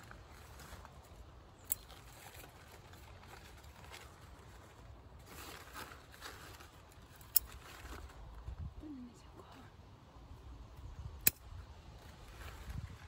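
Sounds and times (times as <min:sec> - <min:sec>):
leaves and stems rustling: 0:00.0 - 0:09.5, 0:11.3 - 0:13.0.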